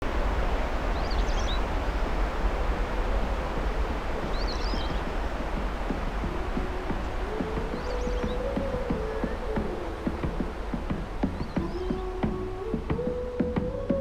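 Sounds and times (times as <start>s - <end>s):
sea surf: 0.0s - 14.0s
wind: 0.0s - 14.0s.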